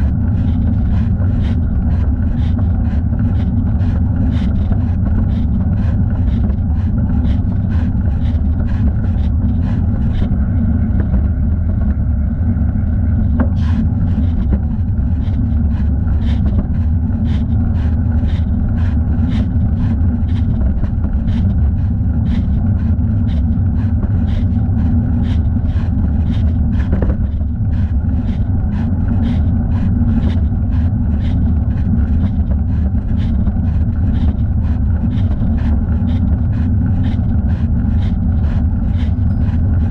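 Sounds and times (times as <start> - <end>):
bicycle riding rumble: 0.0 - 39.9.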